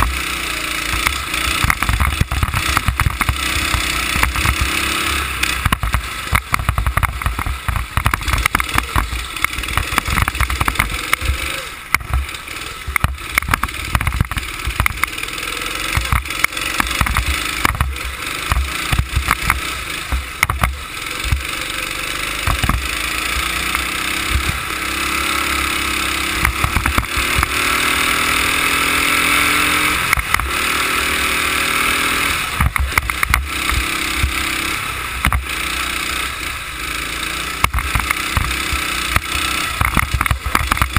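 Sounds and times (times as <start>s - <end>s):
go-kart engine: 0.0s - 40.9s.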